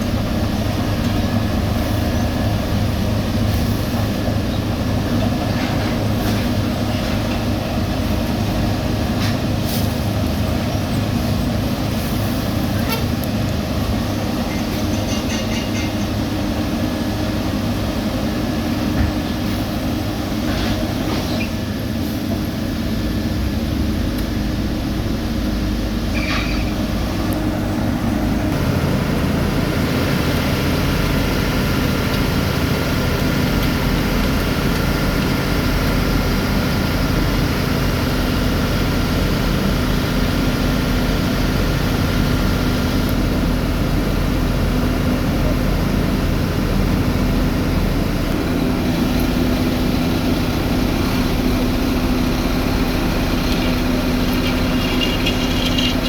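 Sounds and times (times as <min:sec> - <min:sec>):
diesel paving machinery engine drone: 0:00.0 - 0:56.0.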